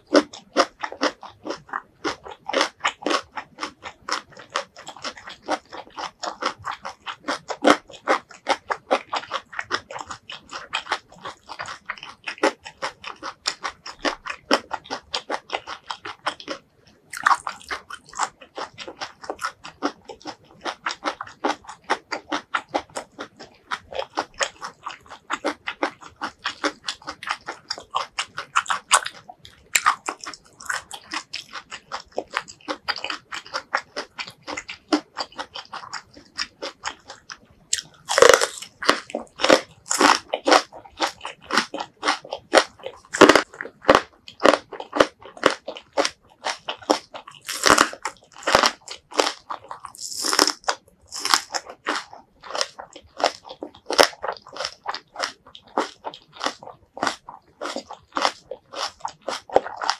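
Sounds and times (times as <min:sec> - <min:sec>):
crisp wet chewing: 0:00.0 - 0:59.9.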